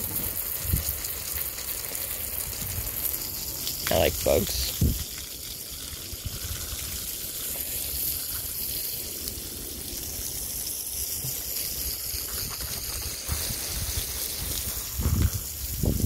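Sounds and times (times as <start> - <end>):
running water hiss and trickle: 0.0 - 16.0.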